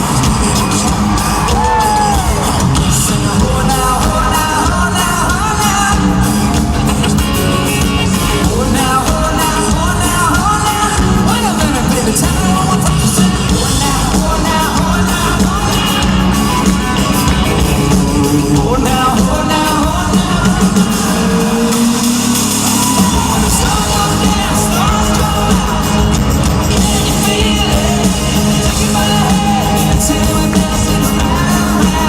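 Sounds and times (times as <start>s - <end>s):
live band with singing: 0.0s - 32.0s.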